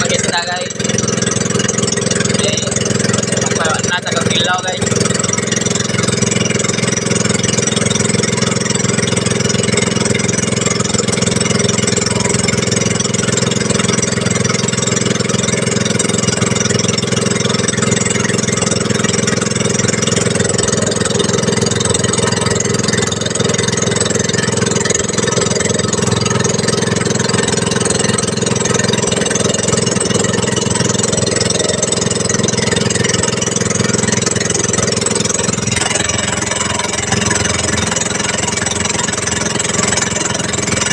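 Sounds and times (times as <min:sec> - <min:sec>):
small engine droning: 0:00.0 - 0:40.9.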